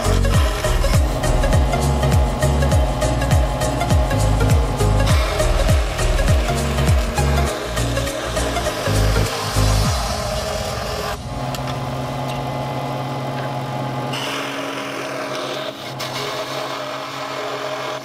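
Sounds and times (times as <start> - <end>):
scroll saw cutting wood: 0.0 - 11.8, 13.4 - 18.0.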